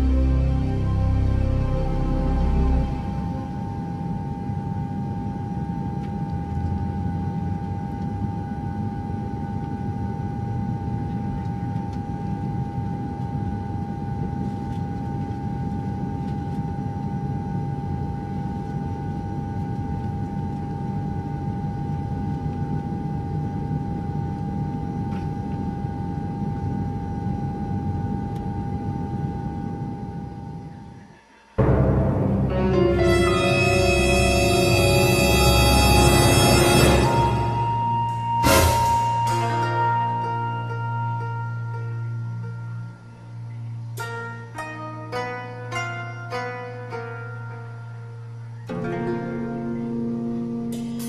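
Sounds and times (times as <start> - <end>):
low mechanical rumble: 0.0 - 44.1
constant whine: 0.0 - 45.4.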